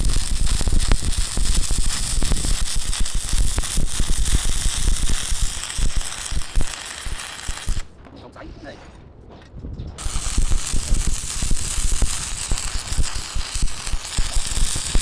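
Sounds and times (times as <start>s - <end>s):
crackling hiss with sharp pops: 0.0s - 7.9s, 10.0s - 15.0s.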